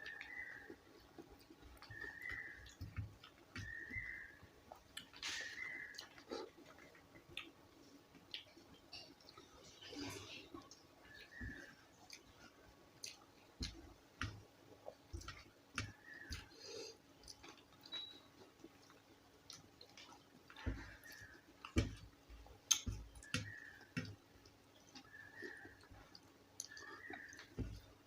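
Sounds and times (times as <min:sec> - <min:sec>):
person chewing wet food: 0:00.0 - 0:28.0.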